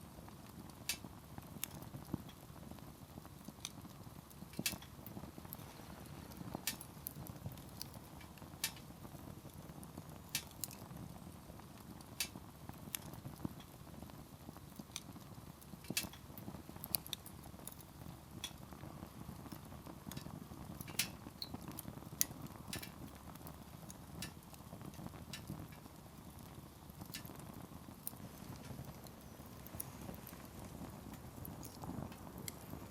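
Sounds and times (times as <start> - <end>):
campfire crackling and popping: 0.0 - 32.9
flames rushing: 0.0 - 32.9.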